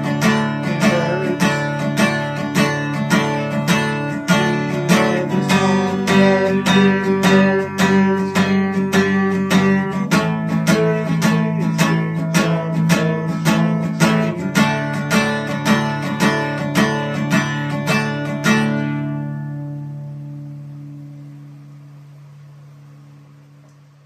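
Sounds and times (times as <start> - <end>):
acoustic guitar strumming: 0.0 - 23.4.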